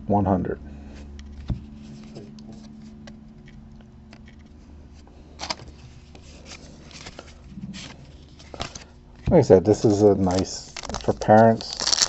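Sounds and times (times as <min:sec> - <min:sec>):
steady low hum: 0:00.0 - 0:12.0
cards sliding rustle: 0:01.0 - 0:12.0.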